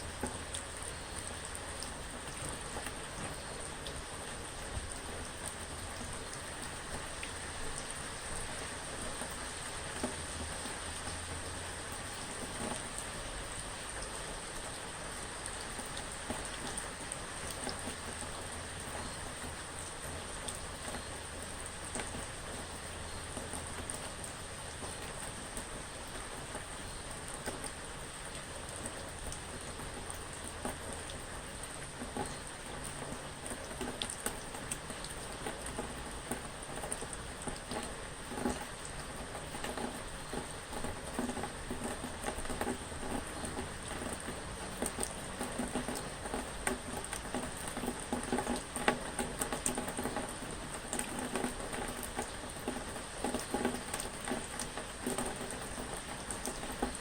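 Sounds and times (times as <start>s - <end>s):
raindrops pattering on a surface: 0.0s - 57.0s.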